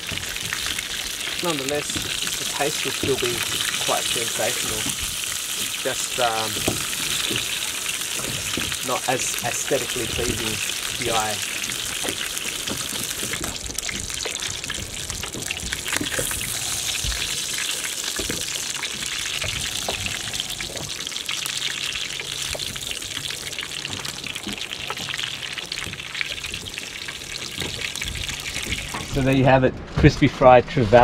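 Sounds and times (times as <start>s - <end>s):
fish sizzling in oil: 0.0s - 29.3s.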